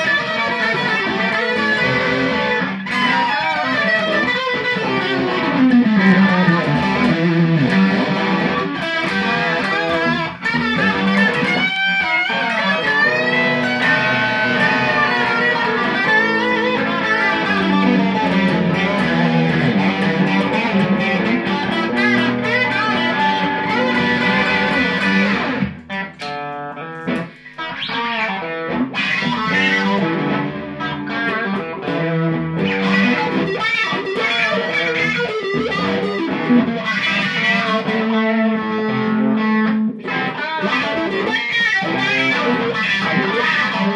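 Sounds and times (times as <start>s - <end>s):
electric guitar through amplifier: 0.0s - 43.9s.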